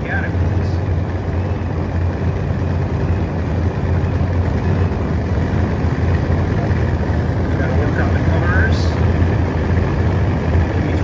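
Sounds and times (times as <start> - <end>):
racing car engine idling: 0.0 - 11.0.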